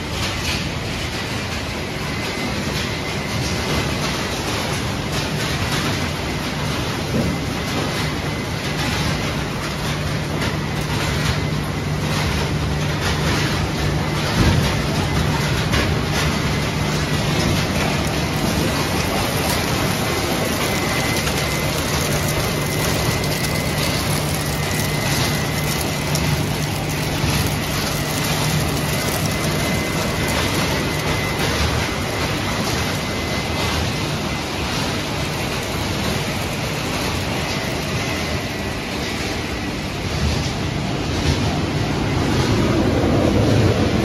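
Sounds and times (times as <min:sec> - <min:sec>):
machinery clatter: 0:00.0 - 0:44.0
machinery hum: 0:00.0 - 0:44.0.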